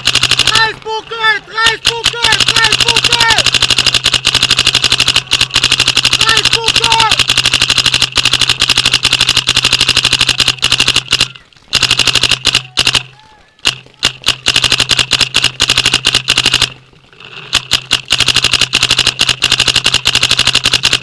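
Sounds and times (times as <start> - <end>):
paintball marker rapid firing: 0.0 - 1.0, 1.6 - 16.8, 17.4 - 21.0.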